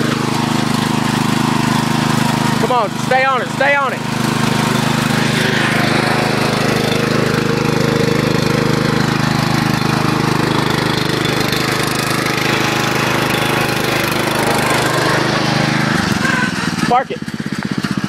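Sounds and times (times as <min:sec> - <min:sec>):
riding lawn mower engine: 0:00.0 - 0:18.0.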